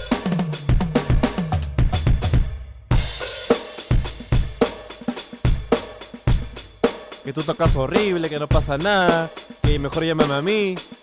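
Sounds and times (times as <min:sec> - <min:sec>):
electronic drums playing: 0:00.0 - 0:11.0.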